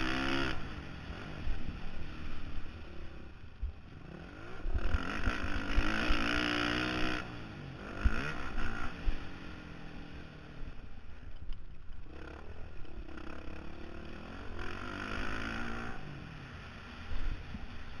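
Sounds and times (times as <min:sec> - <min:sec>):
motorcycle engine revving: 0:00.0 - 0:11.1, 0:11.8 - 0:18.0.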